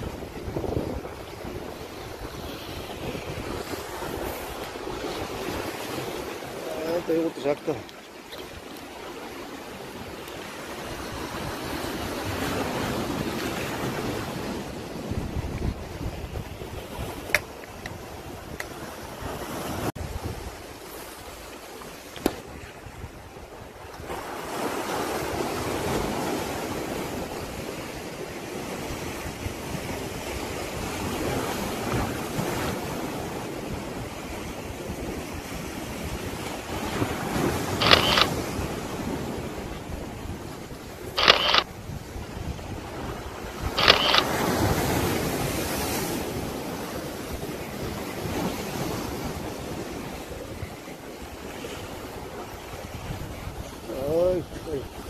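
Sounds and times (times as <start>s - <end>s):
wind on microphone: 0.0s - 7.6s, 8.3s - 55.0s
sea waves washing: 0.0s - 55.0s.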